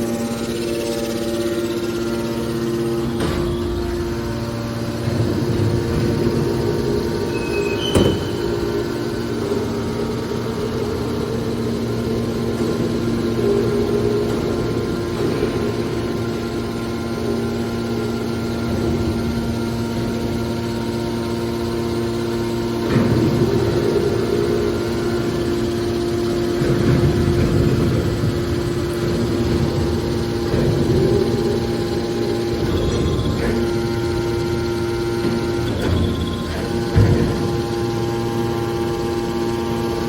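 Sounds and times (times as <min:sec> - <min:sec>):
baler motor hum: 0:00.0 - 0:40.0.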